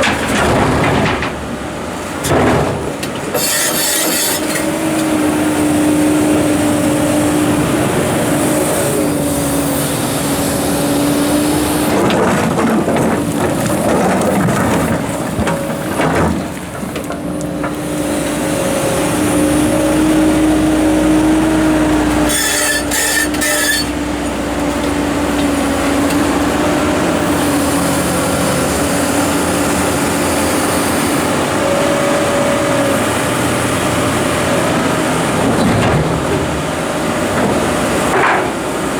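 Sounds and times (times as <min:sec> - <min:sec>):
excavator engine and hydraulics whine: 0:00.0 - 0:38.9.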